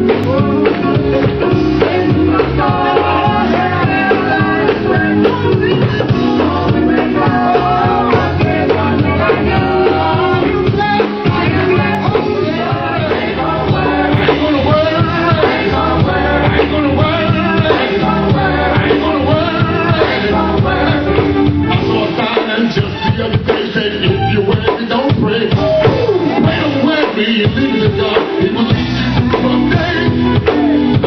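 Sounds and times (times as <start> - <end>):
band with drums: 0.0 - 31.0
gospel group singing: 0.0 - 31.0.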